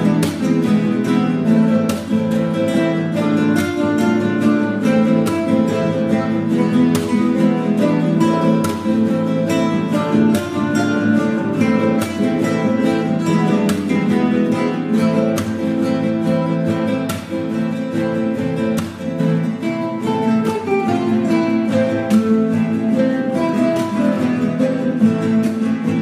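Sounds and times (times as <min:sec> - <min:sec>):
strummed acoustic guitar music: 0:00.0 - 0:26.0.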